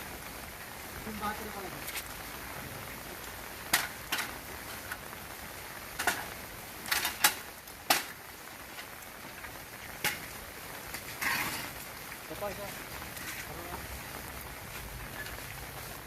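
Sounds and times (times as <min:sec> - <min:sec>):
rain: 0:00.0 - 0:16.0.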